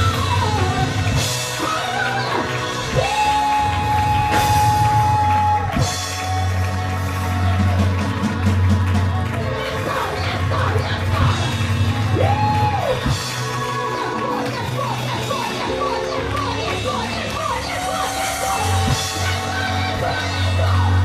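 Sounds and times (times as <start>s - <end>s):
heavy bass: 0.0s - 21.0s
live gospel music: 0.0s - 21.0s
congregation yelling: 1.6s - 21.0s.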